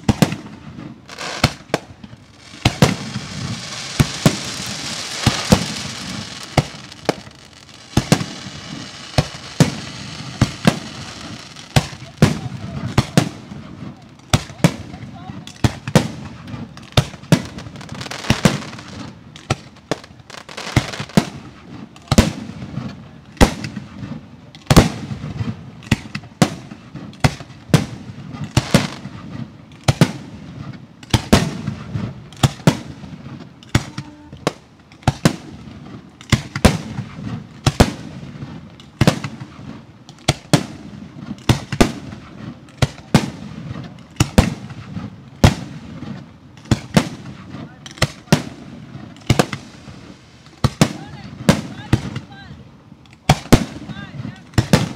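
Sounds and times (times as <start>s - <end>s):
fireworks loud sharp bangs: 0.0s - 52.5s, 53.2s - 54.9s.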